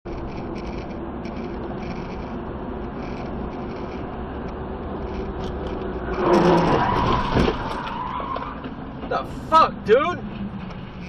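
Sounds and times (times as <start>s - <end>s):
car cabin tyre and engine hum: 0.1s - 11.0s.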